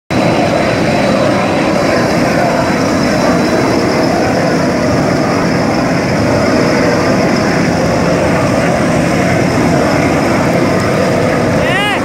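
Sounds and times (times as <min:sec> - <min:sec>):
furnace heater rushing: 0:00.1 - 0:12.0.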